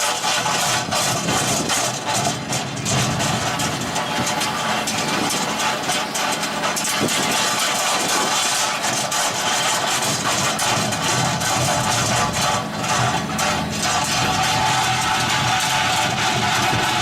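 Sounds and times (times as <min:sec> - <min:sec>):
diesel engine running: 0:00.0 - 0:17.0
stone saw mechanical noise: 0:00.0 - 0:17.0.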